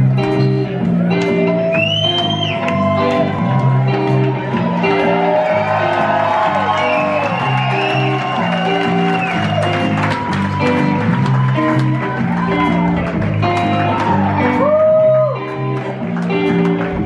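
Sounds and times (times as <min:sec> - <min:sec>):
live rockabilly band: 0:00.0 - 0:17.0
audience whooping and shouting: 0:01.1 - 0:16.1.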